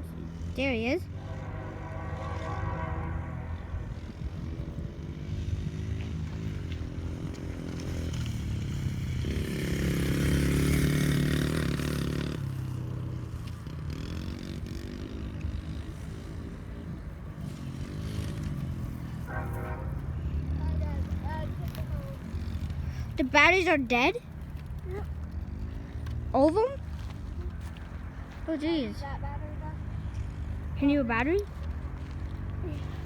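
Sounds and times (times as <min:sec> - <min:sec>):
dirt bike engine: 0:00.0 - 0:33.0.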